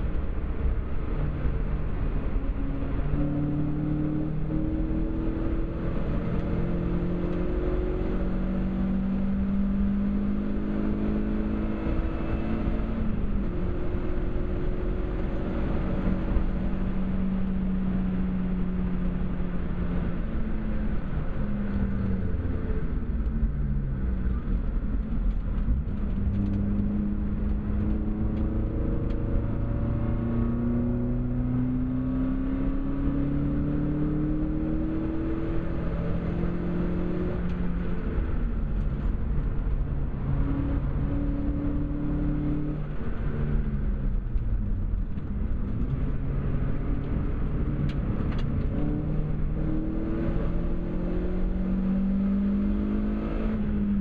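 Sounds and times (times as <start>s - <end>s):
car engine accelerating hard: 0.0s - 54.0s
road and wind noise: 0.0s - 54.0s.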